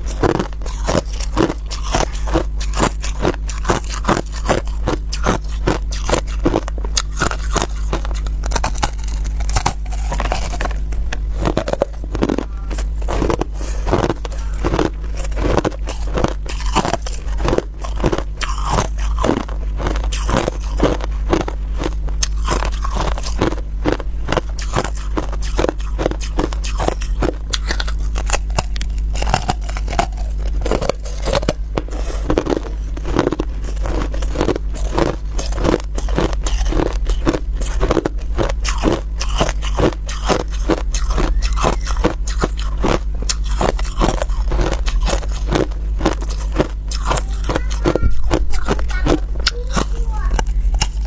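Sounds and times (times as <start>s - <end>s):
chewing crushed ice: 0.0s - 51.0s
steady low hum: 0.0s - 51.0s.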